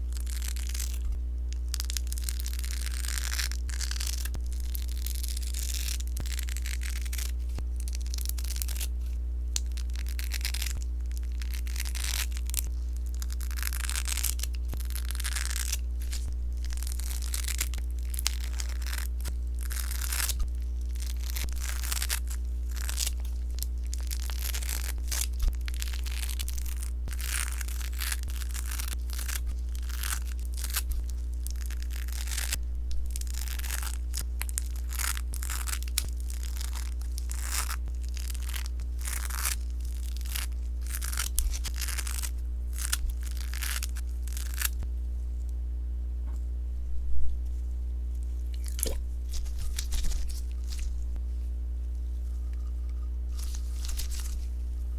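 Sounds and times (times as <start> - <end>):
low hum: 0.0 - 54.9
slime squishing and popping: 0.1 - 44.8, 48.5 - 51.2.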